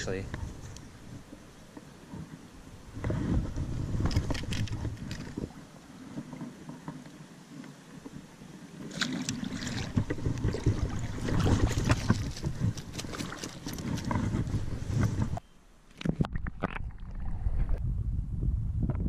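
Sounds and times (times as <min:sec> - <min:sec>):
water splashing and sloshing: 0:00.3 - 0:17.8.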